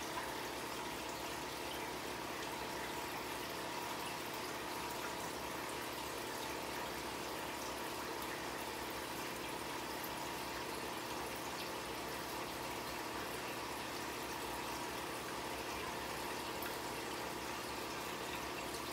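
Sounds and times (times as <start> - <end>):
aquarium water circulating: 0.0 - 18.9.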